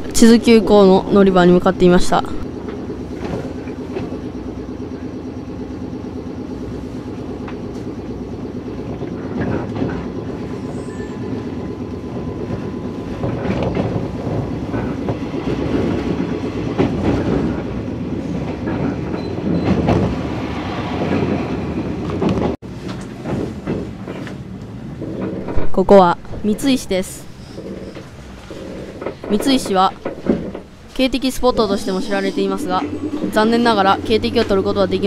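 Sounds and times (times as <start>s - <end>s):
train wheels clattering over rail joints: 2.4s - 35.0s.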